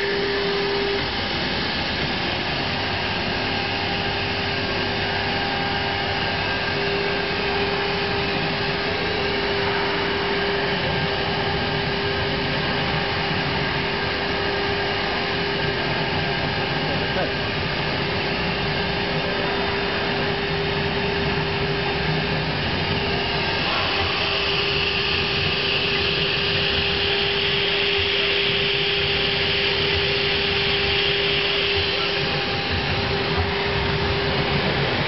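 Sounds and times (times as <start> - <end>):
cnc router cutting wood: 0.0 - 35.0.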